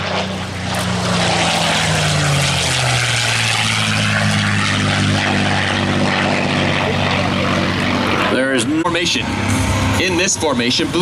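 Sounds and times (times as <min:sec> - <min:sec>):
propeller plane flying past: 0:00.0 - 0:11.0.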